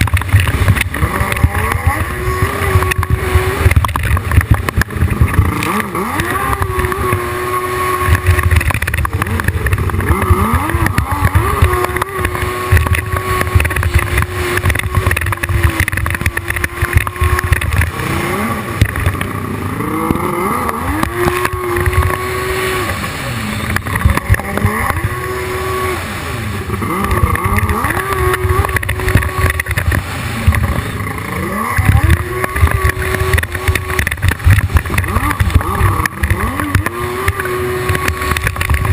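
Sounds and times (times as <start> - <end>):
jet ski engine revving: 0.0 - 38.9.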